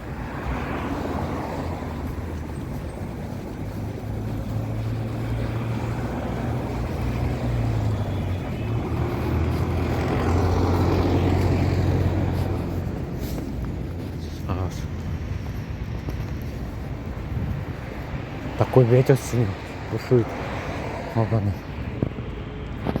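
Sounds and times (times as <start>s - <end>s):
road traffic rumbling: 0.0s - 23.0s
wind buffeting microphone: 0.0s - 23.0s.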